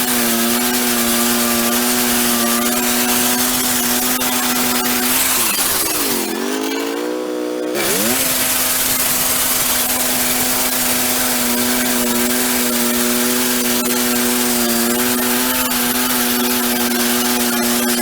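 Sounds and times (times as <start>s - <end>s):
bandsaw mill sawing log: 0.0s - 18.0s.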